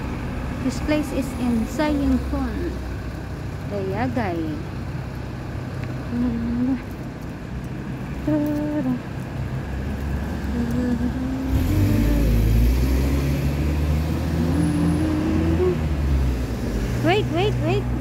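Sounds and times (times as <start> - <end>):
car passing: 0.0 - 18.0
minibus engine rumble: 0.0 - 18.0.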